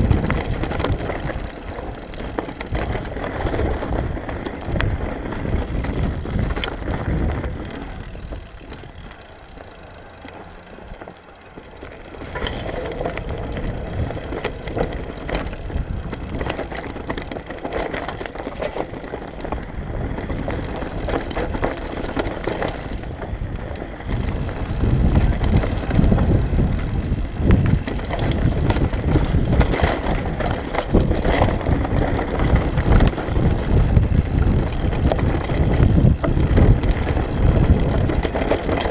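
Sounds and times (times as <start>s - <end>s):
bike rattling and knocking: 0.0s - 38.9s
bike tyres rumbling over dirt: 0.0s - 38.9s.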